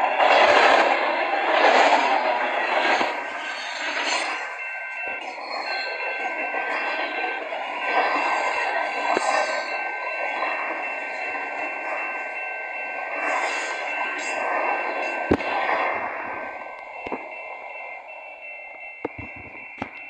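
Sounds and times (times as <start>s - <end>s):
freight train passing: 0.0s - 20.0s
thin high ringing tone: 3.5s - 20.0s.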